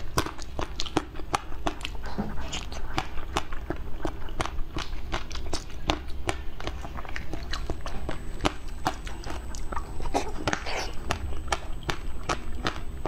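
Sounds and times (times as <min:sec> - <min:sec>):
wet mouth biting jelly: 0:00.0 - 0:13.0.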